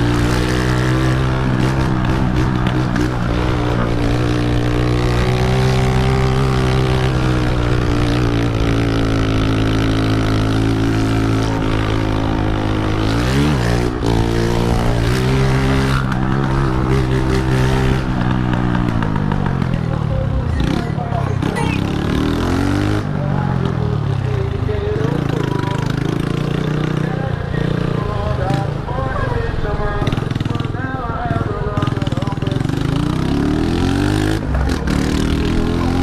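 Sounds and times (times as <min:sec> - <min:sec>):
motorcycle engine running loud: 0:00.0 - 0:36.0.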